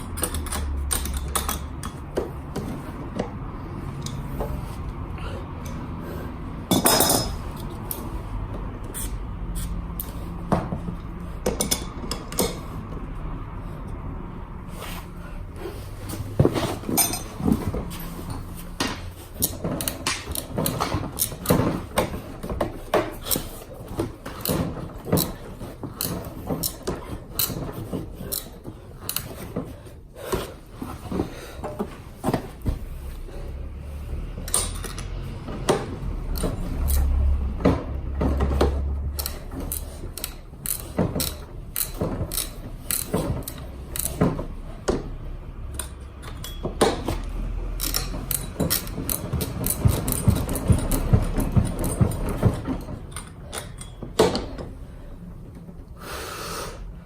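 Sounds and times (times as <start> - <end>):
hand tools clicking and knocking: 0.0 - 13.1, 15.6 - 55.8.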